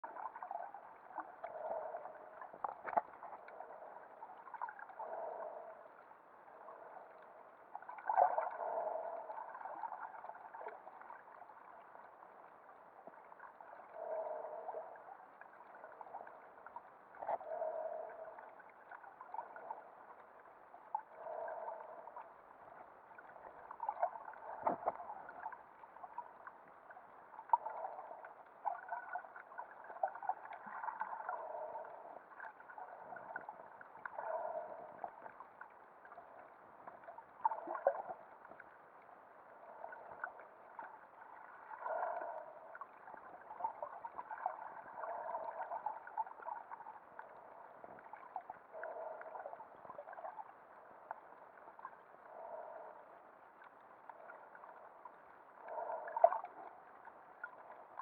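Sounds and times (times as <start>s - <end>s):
muffled underwater gurgling: 0.0s - 20.3s, 20.9s - 26.4s, 27.3s - 35.5s, 39.4s - 53.2s, 54.0s - 58.0s.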